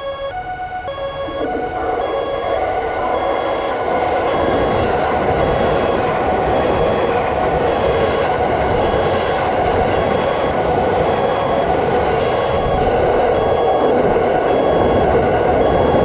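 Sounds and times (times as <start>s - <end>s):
passing train noise: 0.0s - 16.0s
railroad crossing alarm ringing: 0.0s - 16.0s.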